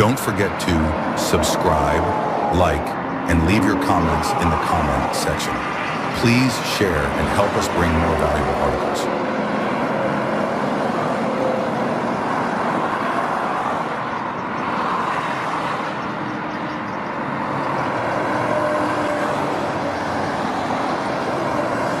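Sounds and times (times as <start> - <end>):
road and traffic noise: 0.0 - 22.0.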